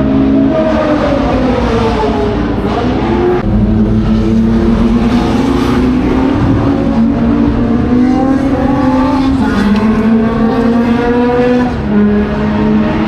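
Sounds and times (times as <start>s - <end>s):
racing car engines at speed: 0.0s - 13.0s.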